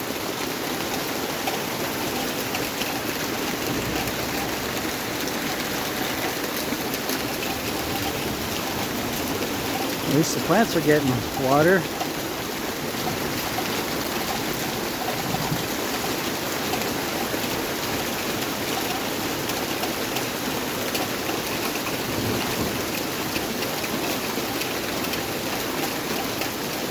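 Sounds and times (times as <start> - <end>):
heavy rain downpour: 0.0 - 26.9.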